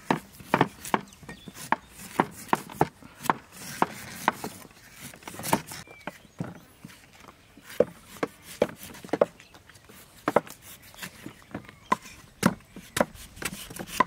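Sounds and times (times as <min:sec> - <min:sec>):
cleaver chopping coconut husk: 0:00.0 - 0:06.2, 0:07.6 - 0:14.0
cleaver scraping husk: 0:00.0 - 0:14.0.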